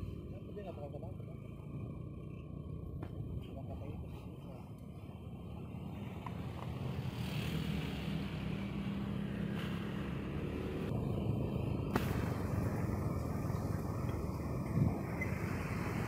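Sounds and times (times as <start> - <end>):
motorcycle engine rumble: 0.0 - 16.0
wind: 0.0 - 16.0.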